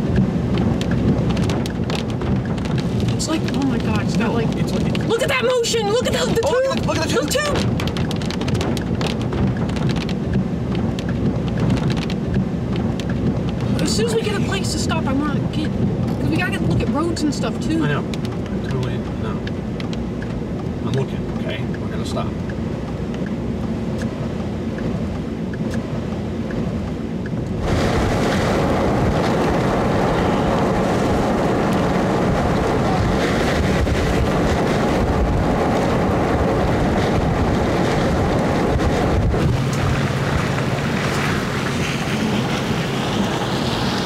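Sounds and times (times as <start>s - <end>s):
car road noise: 0.0s - 44.0s
low car engine hum: 0.0s - 44.0s
wind rushing over microphone: 0.0s - 44.0s.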